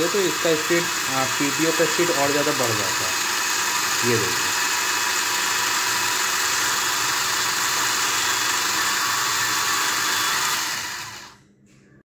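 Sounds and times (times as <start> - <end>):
electric motor whirring: 0.0 - 11.4.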